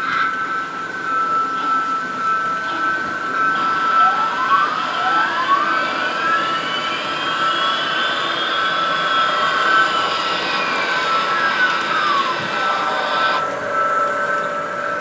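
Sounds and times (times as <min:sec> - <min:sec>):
model trains whining: 0:00.0 - 0:15.0
tones rising and falling in pitch: 0:01.4 - 0:14.4.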